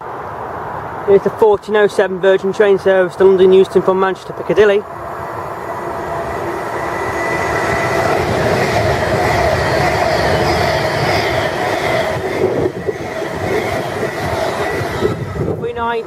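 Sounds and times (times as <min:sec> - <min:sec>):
electric train rumble: 0:00.0 - 0:16.0
steady train whine: 0:00.0 - 0:16.0.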